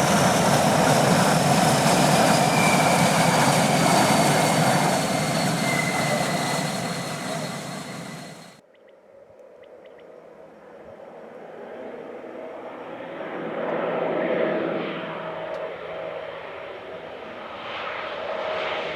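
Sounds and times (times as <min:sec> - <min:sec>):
turboprop plane passing low: 0:00.0 - 0:08.6, 0:11.6 - 0:18.9.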